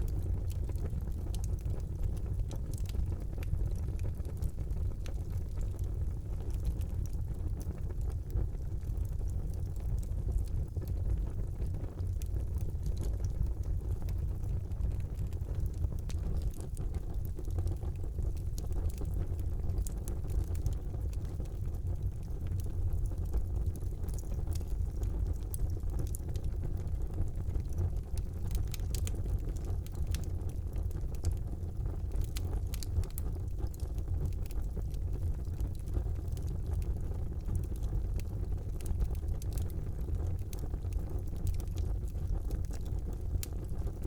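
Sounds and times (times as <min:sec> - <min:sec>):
fire crackling and popping: 0:00.0 - 0:44.0
fire rumbling in fireplace: 0:00.0 - 0:44.0.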